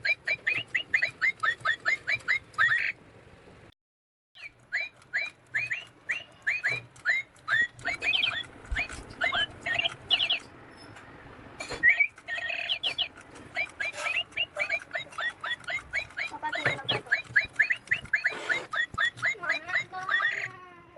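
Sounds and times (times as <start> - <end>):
toy bird chirping: 0.0 - 3.0, 4.4 - 11.0, 11.6 - 20.6.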